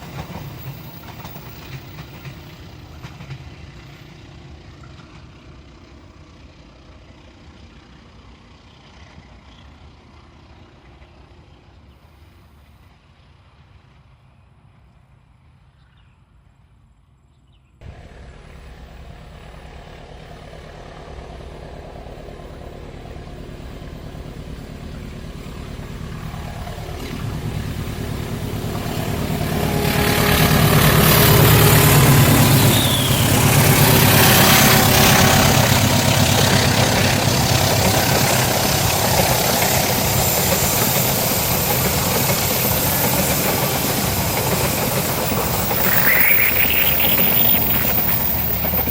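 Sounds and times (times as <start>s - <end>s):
diesel locomotive engine: 0.0s - 15.8s, 17.8s - 48.9s
train wheel and rail noise: 0.0s - 15.8s, 17.8s - 48.9s.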